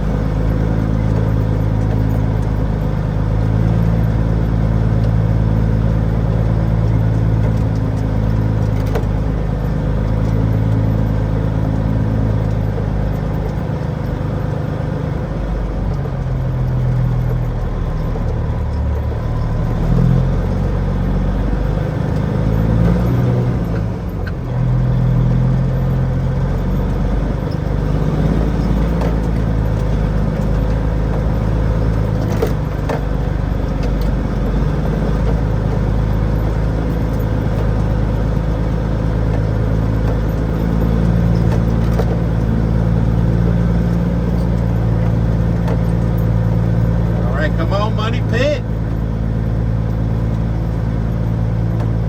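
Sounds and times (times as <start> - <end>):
heavy truck engine revving: 0.0 - 52.0.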